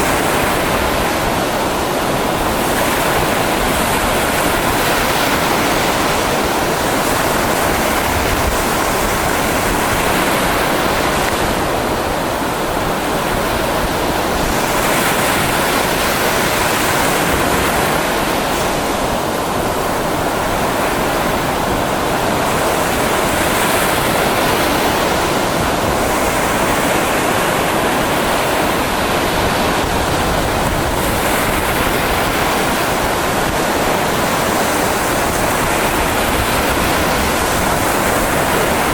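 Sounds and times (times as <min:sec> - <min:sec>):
sea surf washing on shore: 0:00.0 - 0:38.9.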